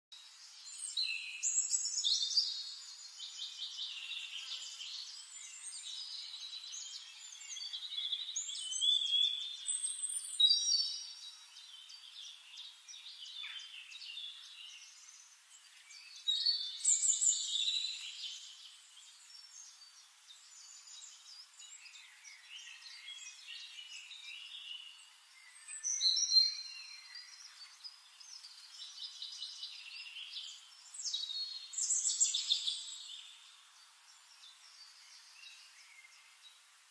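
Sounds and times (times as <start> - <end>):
faint steady hiss: 0.1 - 36.9
songbirds chirping and singing: 0.1 - 36.9.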